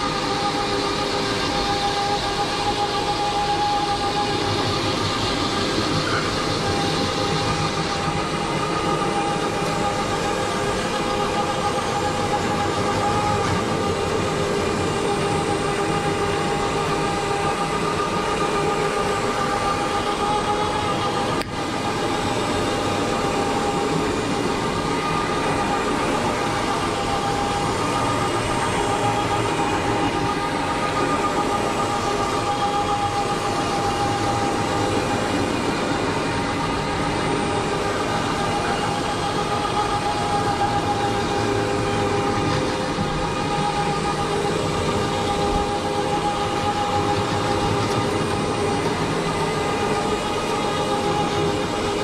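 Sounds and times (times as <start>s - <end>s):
carpet cleaning machine whining hum: 0.0s - 52.0s.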